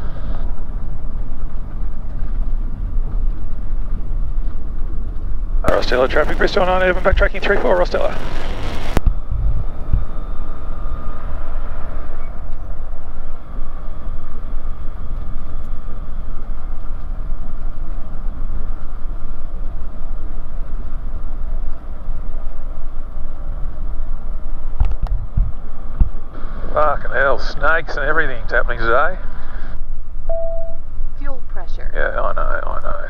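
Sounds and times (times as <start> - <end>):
light aircraft engine and propeller: 0.0 - 29.8.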